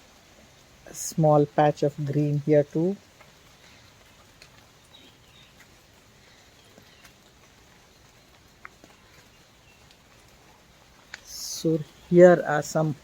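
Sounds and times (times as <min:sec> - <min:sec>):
low steady hiss: 0:00.0 - 0:13.0
rainwater dripping: 0:00.0 - 0:13.0.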